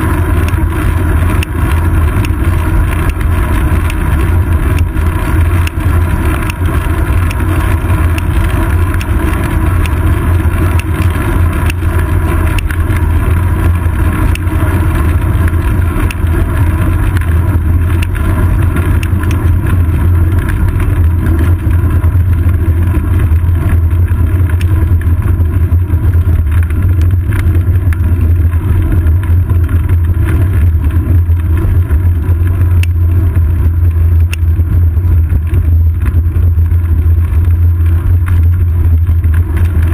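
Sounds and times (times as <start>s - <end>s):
faint clicks from road bumps: 0.0s - 39.9s
wind and road rumble: 0.0s - 39.9s.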